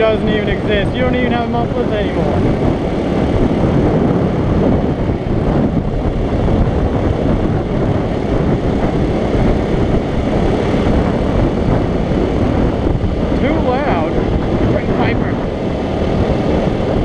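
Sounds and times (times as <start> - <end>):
motorcycle engine and exhaust: 0.0 - 17.0
wind buffeting microphone: 0.0 - 17.0.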